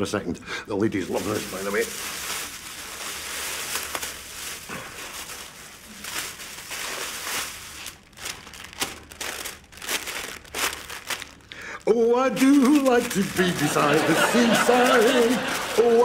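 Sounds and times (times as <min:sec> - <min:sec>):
plastic bag rustling: 0:00.7 - 0:16.0
paper crackling: 0:00.9 - 0:16.0.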